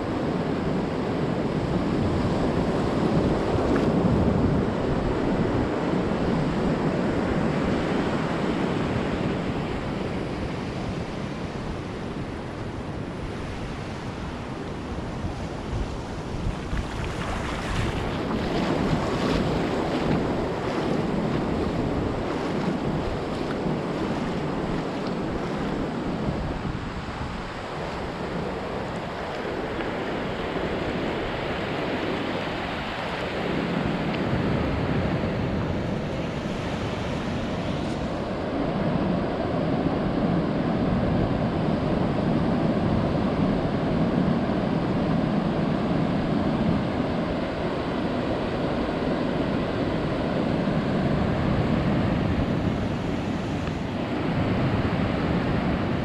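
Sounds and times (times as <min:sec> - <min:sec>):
ocean surf breaking: 0:00.0 - 0:56.0
wind rumbling on microphone: 0:00.0 - 0:56.0.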